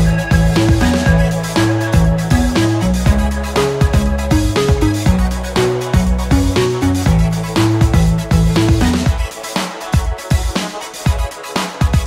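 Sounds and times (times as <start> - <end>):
electronic dance beat on keyboard: 0.0 - 12.0.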